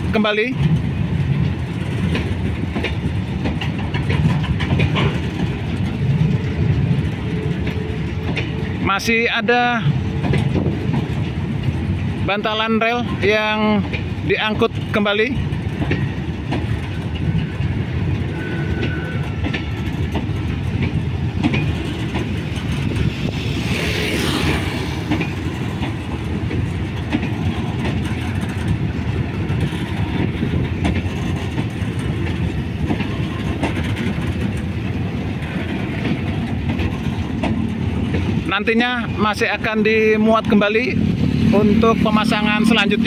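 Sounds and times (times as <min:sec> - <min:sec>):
clicks over rail joints: 0:00.0 - 0:41.0
steel wheels rumbling on rail: 0:00.0 - 0:43.0.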